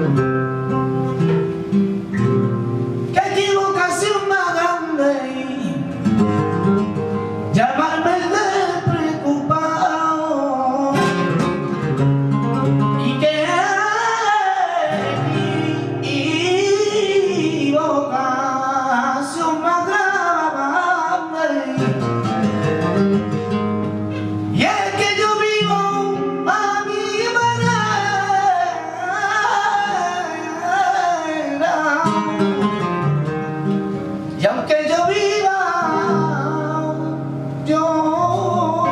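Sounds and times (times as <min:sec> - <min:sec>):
flamenco guitar: 0:00.0 - 0:38.9
man singing flamenco: 0:00.0 - 0:38.9.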